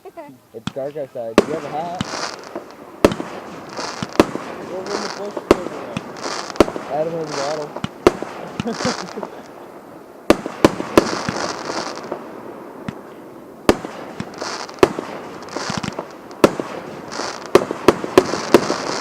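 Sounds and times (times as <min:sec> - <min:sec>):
fireworks crackling hisses: 0:00.0 - 0:19.0
fireworks bangs: 0:00.5 - 0:19.0.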